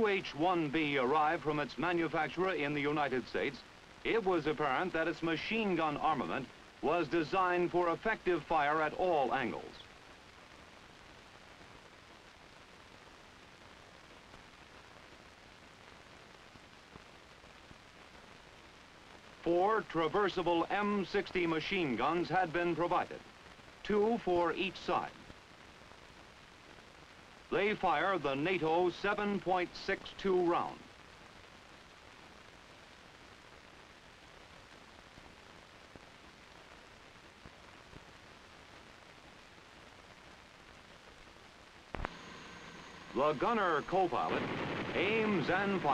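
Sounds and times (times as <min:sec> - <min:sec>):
film soundtrack hiss: 0:00.0 - 0:45.9.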